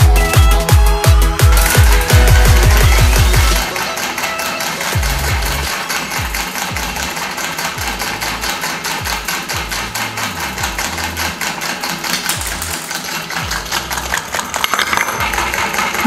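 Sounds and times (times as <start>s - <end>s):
model engine mechanical clatter: 0.0s - 16.0s.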